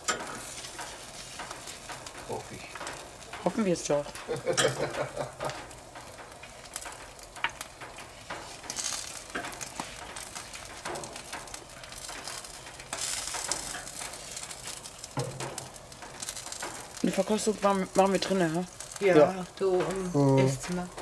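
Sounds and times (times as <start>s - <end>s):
food sizzling on grill: 0.0s - 21.0s.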